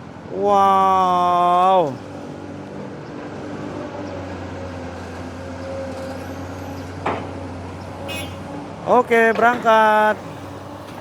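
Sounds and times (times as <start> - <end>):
heavy diesel machinery humming: 0.0 - 11.0.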